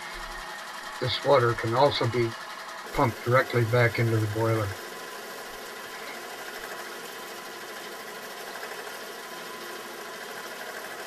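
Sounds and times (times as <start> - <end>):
steam engine running: 0.0 - 11.0.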